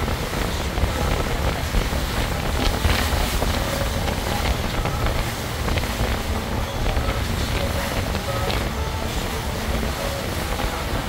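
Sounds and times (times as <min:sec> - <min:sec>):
boat engine running: 0:00.0 - 0:11.0
water rushing along hull: 0:00.0 - 0:11.0
wind buffeting microphone: 0:00.0 - 0:11.0.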